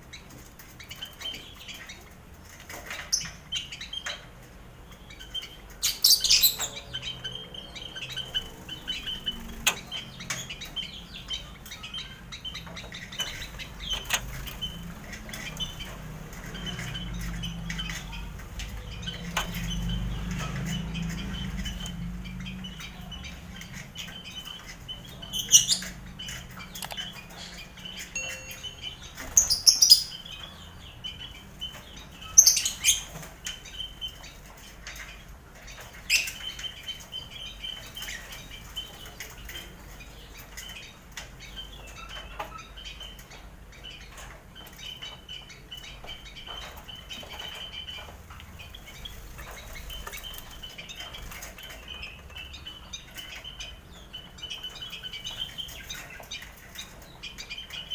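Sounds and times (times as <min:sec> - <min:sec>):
birds chirping: 0:00.0 - 0:57.9
loud sharp bird calls: 0:00.0 - 0:57.9.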